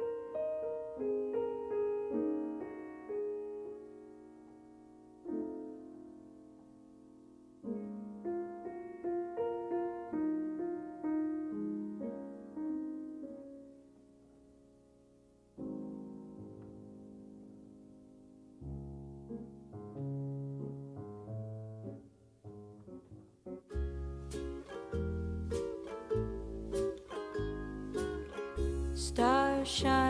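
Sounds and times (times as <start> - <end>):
solo piano music: 0.0 - 30.0.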